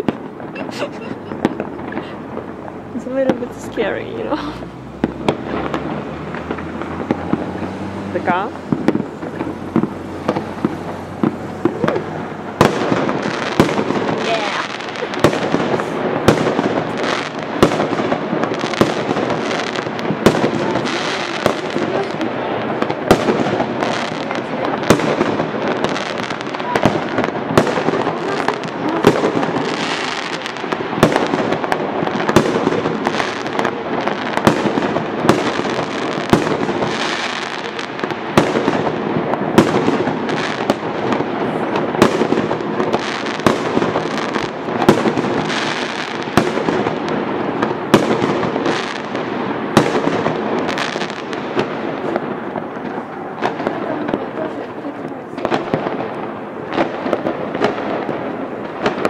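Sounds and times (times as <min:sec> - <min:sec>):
fireworks banging: 0:00.0 - 0:59.0
fireworks crackling: 0:00.0 - 0:59.0.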